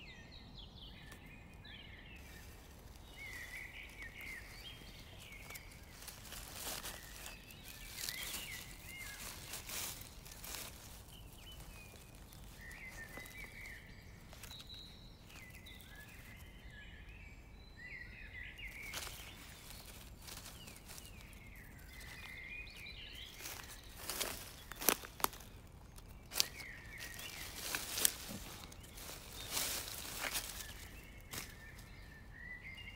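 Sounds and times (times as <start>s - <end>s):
small birds chirping: 0.0s - 32.9s
dry leaves and twigs rustling: 0.8s - 32.9s.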